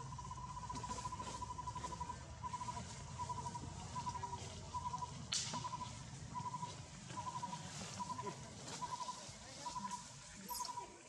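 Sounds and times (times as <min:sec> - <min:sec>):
bird calling pulsed notes: 0:00.0 - 0:11.0.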